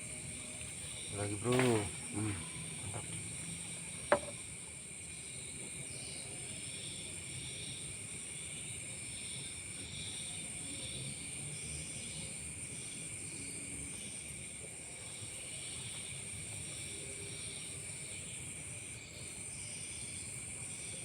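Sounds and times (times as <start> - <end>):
insect chirps: 0.0 - 21.0
insects droning high whine: 0.0 - 21.0.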